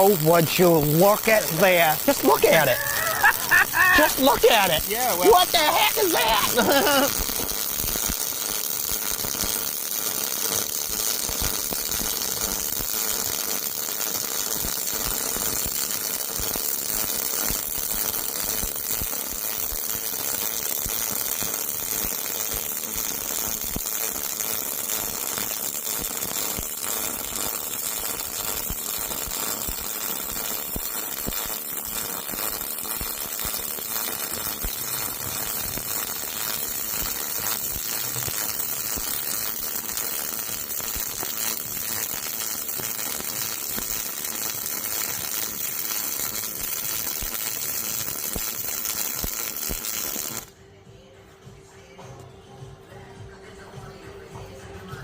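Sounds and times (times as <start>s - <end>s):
welding arc crackling hiss: 0.0s - 50.5s.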